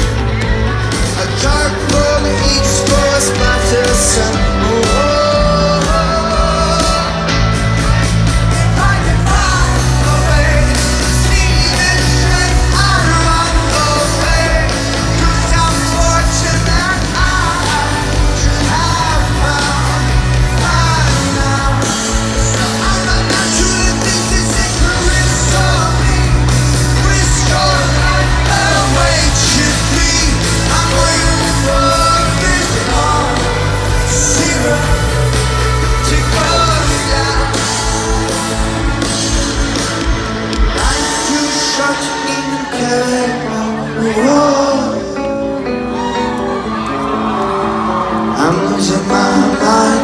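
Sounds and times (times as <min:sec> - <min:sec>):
bass notes: 0:00.0 - 0:41.5
lead singer singing: 0:00.0 - 0:50.0
live rock band playing: 0:00.0 - 0:50.0.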